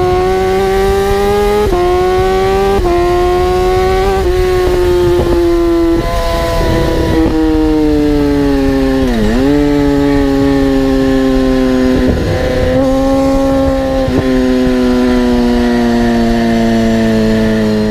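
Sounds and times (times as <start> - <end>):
vehicle engine revving high: 0.0 - 17.9.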